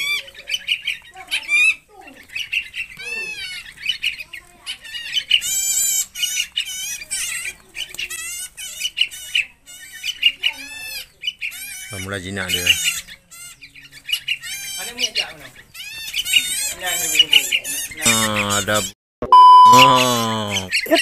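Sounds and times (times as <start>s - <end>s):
birds chirping and squawking: 0.0s - 19.0s, 19.6s - 21.0s.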